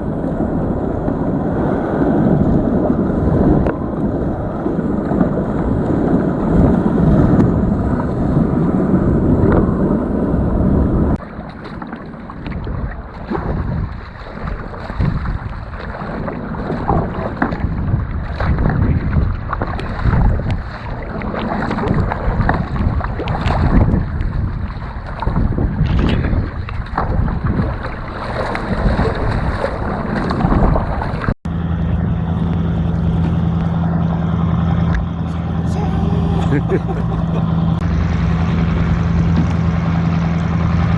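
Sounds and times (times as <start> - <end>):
low engine hum: 0.0 - 26.0, 29.8 - 40.9
water splashing around kayak: 0.0 - 40.9
wind rumbling on microphone: 0.0 - 40.9.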